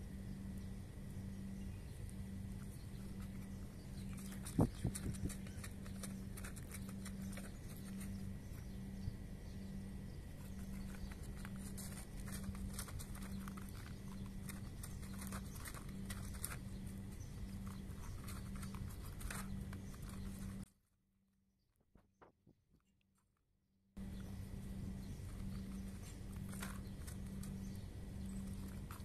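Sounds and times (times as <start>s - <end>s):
steady low hum: 0.0s - 20.7s, 24.0s - 29.0s
cats crunching dry kibble: 1.3s - 20.7s, 24.0s - 29.0s.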